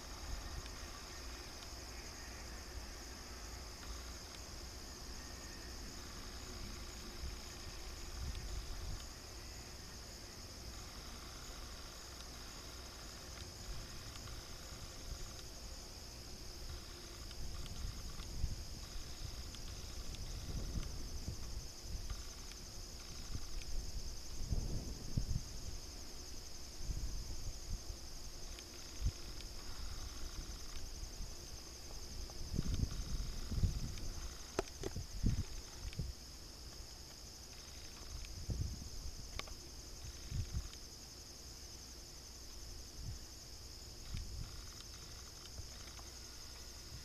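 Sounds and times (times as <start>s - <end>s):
insects buzzing: 0.0s - 47.0s.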